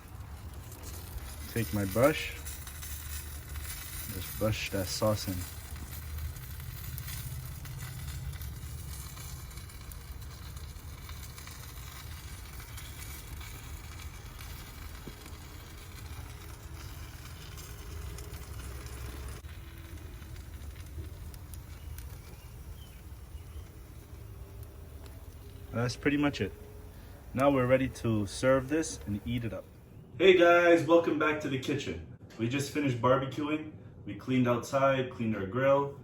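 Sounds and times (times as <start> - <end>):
meat sizzling on a grill: 0.0 - 29.6.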